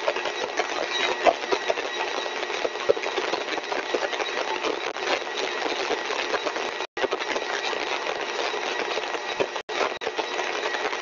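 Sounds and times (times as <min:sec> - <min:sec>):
compressor whirring: 0:00.0 - 0:11.0.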